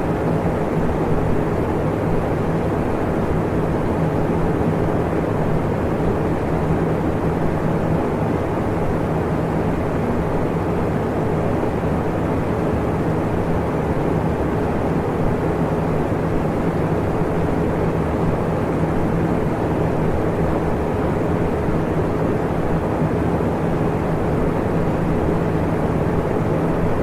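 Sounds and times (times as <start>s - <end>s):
electric fan air rush: 0.0s - 27.0s.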